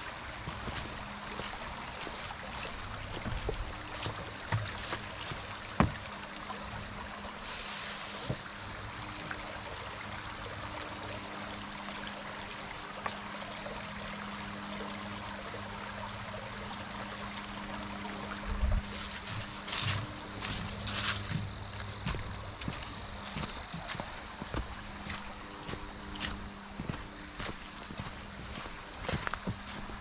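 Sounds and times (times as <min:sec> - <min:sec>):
stream running over rocks: 0:00.0 - 0:30.0.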